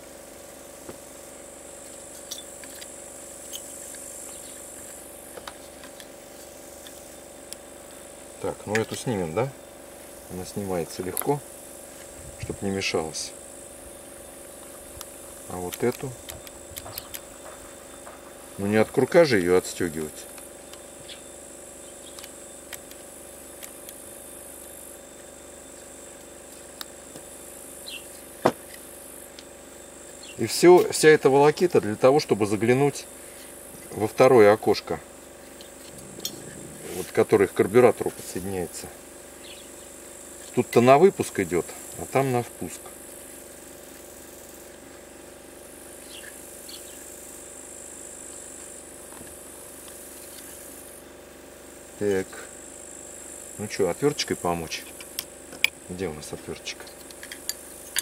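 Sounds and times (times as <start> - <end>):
high insect buzz: 0.0 - 58.0
steady low hum: 0.0 - 58.0.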